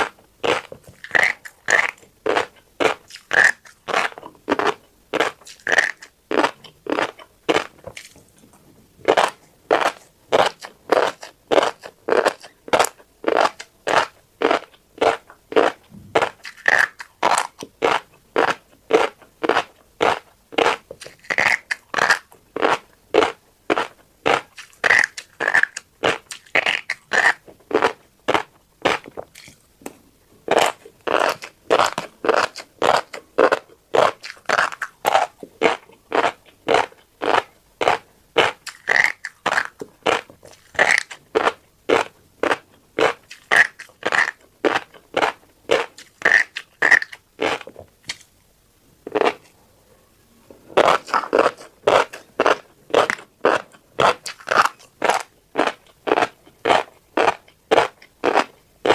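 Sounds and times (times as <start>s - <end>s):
crunchy chewing of seeds: 0.0s - 48.4s, 49.0s - 49.6s, 50.7s - 58.9s.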